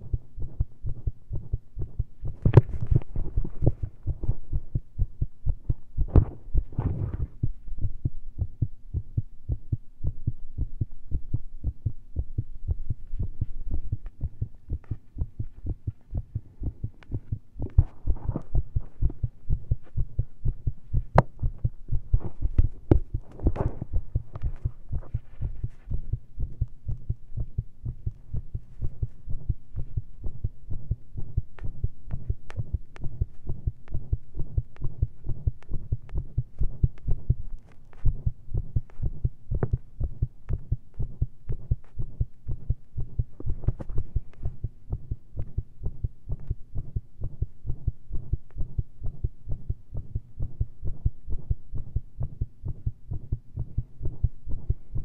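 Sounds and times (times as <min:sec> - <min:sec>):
fast irregular heartbeat: 0:00.0 - 0:55.0.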